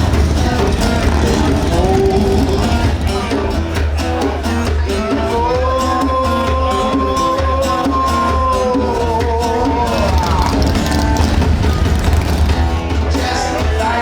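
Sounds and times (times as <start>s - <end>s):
rock song with drums and bass: 0.0s - 14.0s.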